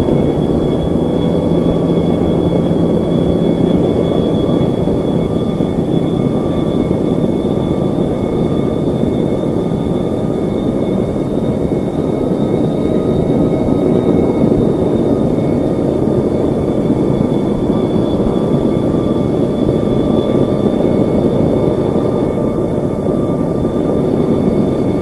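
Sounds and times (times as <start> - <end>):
aircraft engine rumble: 0.0 - 25.0.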